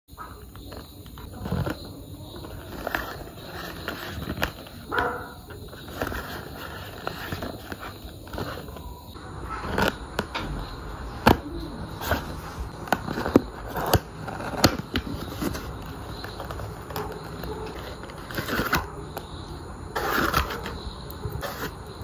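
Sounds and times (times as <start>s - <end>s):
cardboard rustling: 0.2s - 22.0s
scissors cutting cardboard: 0.2s - 22.0s.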